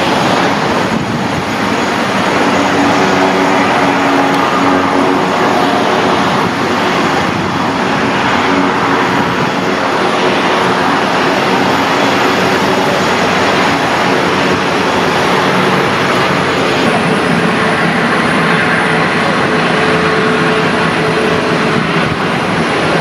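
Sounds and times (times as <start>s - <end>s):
jet engine of taxiing airliner: 0.0s - 23.0s.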